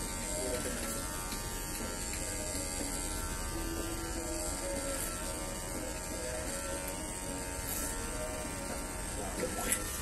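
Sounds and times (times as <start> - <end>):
hair clipper buzzing: 0.0 - 10.0.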